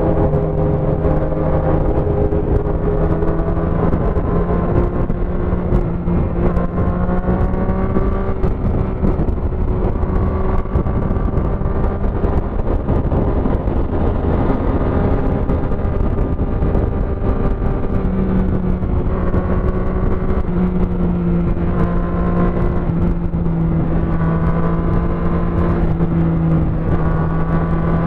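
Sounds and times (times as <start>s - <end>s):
motorcycle engine: 0.0s - 28.0s
wind rush on microphone: 0.0s - 28.0s.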